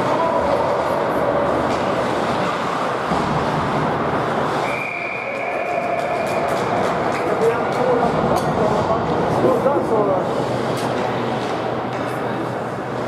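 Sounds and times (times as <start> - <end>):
crowd chatter: 0.0 - 13.0
ice hockey game noise: 0.0 - 13.0.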